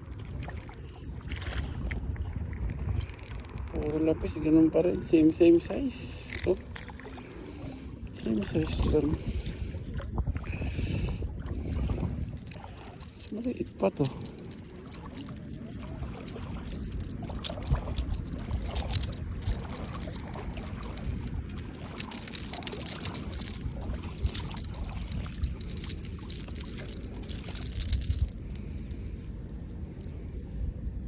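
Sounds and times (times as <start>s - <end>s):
steady low rumble: 0.0s - 31.0s
water splashing and trickling: 0.0s - 31.0s.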